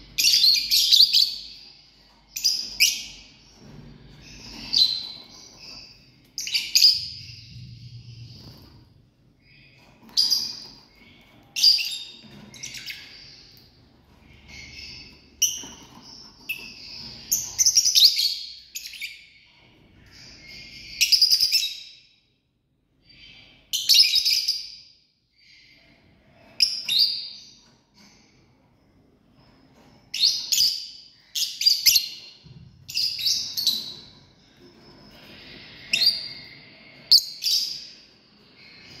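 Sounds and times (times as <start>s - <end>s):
lovebirds chirping: 0.0s - 22.1s, 25.4s - 39.0s.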